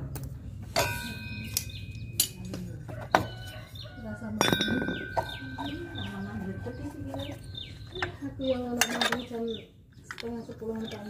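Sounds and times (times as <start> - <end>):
metal tools clinking: 0.8 - 10.3.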